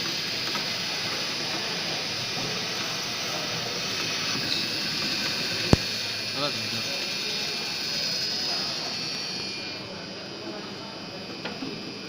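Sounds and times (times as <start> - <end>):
machine hissing with high whine: 0.0 - 12.0.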